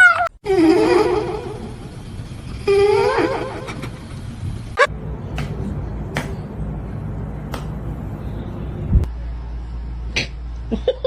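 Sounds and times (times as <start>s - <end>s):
steady low hum: 1.0s - 11.0s.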